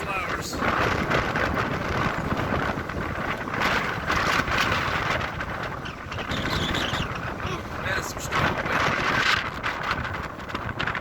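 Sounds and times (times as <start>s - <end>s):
wind gusts buffeting microphone: 0.0s - 11.0s.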